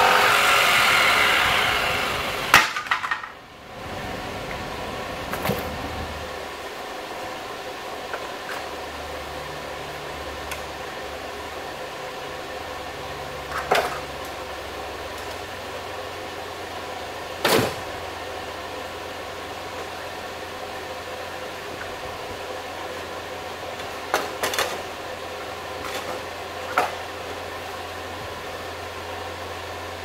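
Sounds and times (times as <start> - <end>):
workshop hum: 0.0 - 30.0.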